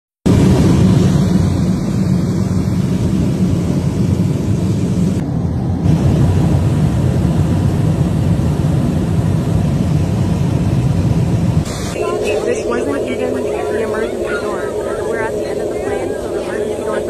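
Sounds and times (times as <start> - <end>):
air rushing in cabin: 0.3 - 17.0
aircraft engine noise: 0.3 - 17.0.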